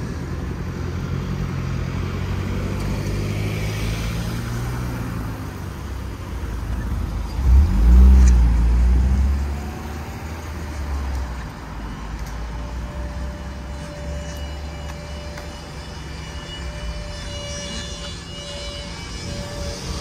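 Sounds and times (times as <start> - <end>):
cars passing on wet road: 0.0 - 17.2.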